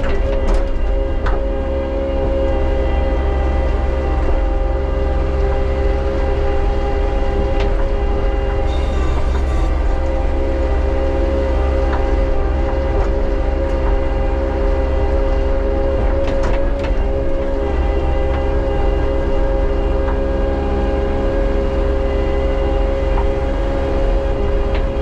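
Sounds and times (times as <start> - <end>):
steady whine: 0.0 - 25.0
track loader engine drone: 0.0 - 25.0.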